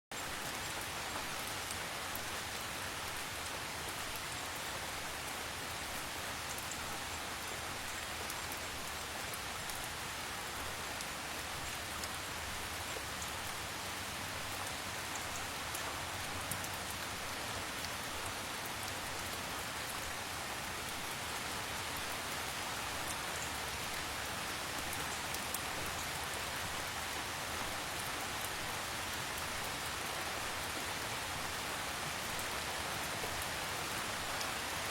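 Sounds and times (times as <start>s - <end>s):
gentle rain hiss: 0.1s - 34.9s
faint raindrop ticks: 0.2s - 34.9s.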